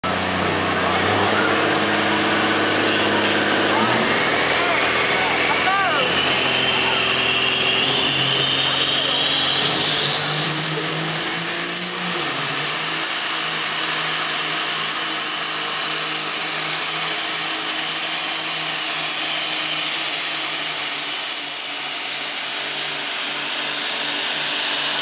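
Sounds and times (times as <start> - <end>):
diesel engine drone at full power: 0.0 - 25.0
turbocharger whistle: 0.9 - 25.0.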